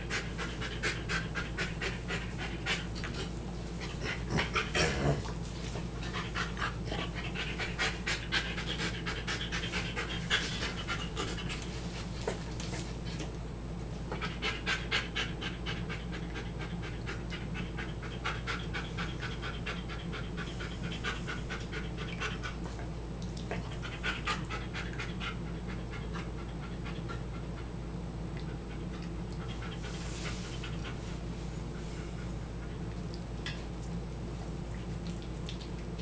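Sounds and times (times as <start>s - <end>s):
dog panting: 0.0s - 13.4s, 14.1s - 27.8s, 28.4s - 32.9s
low steady hum: 0.0s - 36.0s.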